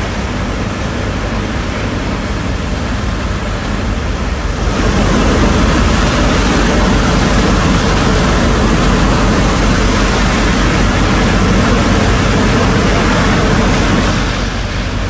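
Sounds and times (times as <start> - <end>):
pump engine running: 0.0 - 15.0
water and sand rushing: 0.0 - 15.0.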